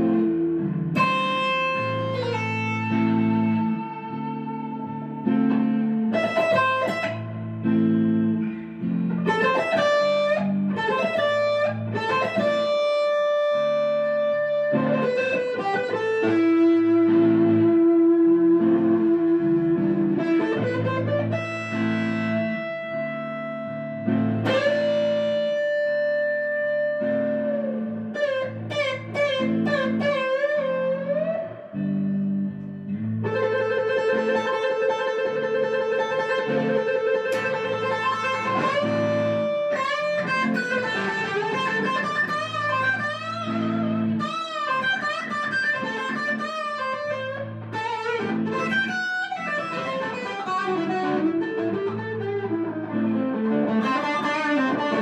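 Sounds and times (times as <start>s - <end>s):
guitar melody with bending notes: 0.0s - 55.0s.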